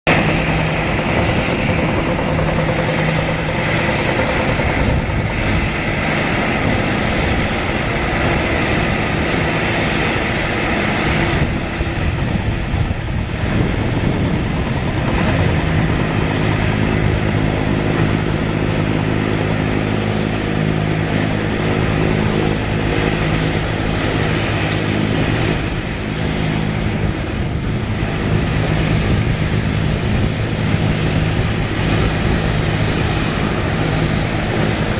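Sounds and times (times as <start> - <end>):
jet engine roar with whine: 0.0 - 34.9.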